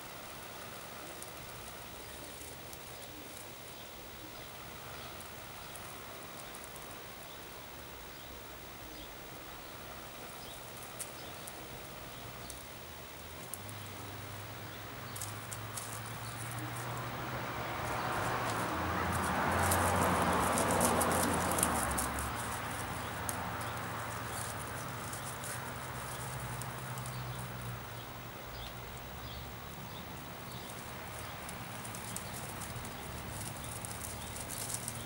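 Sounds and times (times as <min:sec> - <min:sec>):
dry tinder crackling and rustling: 0:00.0 - 0:07.2, 0:09.7 - 0:28.0, 0:30.0 - 0:35.0.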